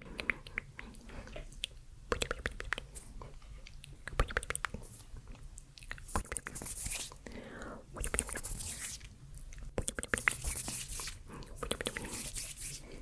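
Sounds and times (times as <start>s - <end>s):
wet tongue and lip clicks: 0.0s - 6.6s, 7.9s - 12.2s.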